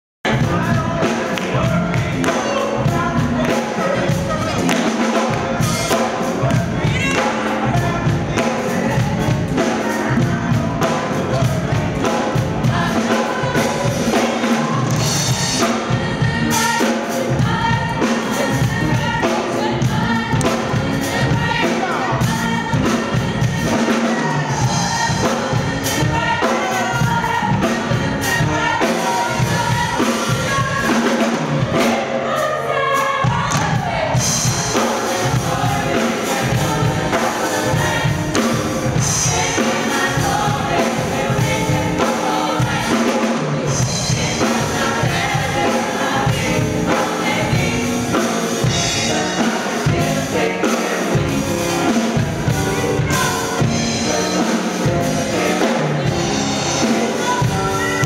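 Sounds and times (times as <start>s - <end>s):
drum kit beat: 0.2s - 58.0s
voices singing together: 0.3s - 58.0s.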